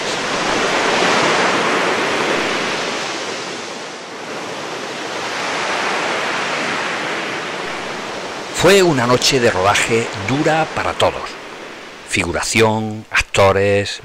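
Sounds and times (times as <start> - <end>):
surf washing over pebbles: 0.0 - 13.5.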